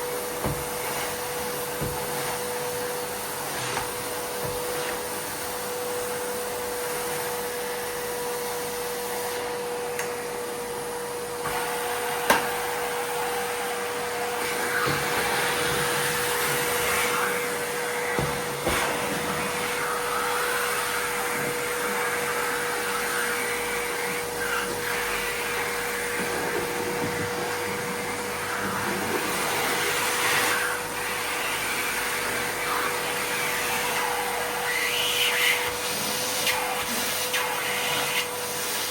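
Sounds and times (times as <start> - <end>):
vacuum cleaner whine: 0.0 - 38.9.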